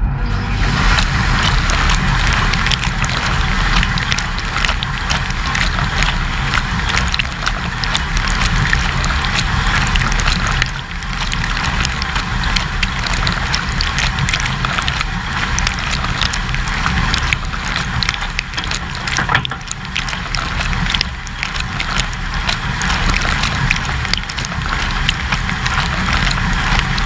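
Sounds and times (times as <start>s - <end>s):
wash pump humming: 0.2s - 27.0s
water spray pelting dishwasher racks: 0.6s - 27.0s.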